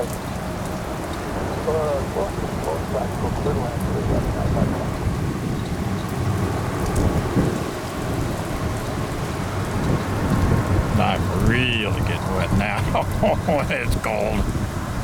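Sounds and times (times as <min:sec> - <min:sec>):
heavy rain falling: 0:00.0 - 0:15.0
wind buffeting microphone: 0:00.0 - 0:15.0.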